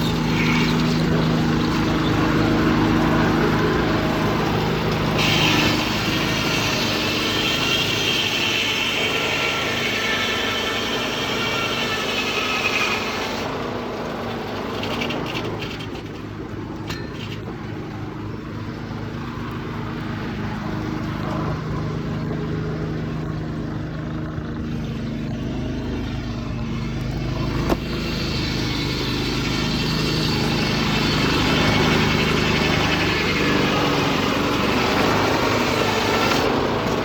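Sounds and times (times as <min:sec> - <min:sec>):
muffled diesel engine drone: 0:00.0 - 0:12.0, 0:12.6 - 0:37.0.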